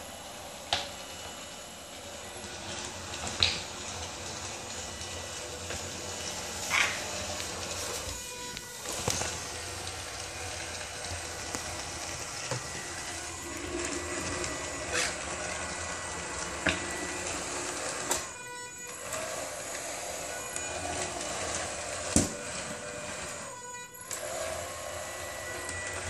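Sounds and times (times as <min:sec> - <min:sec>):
small motors whirring: 0:00.0 - 0:26.0.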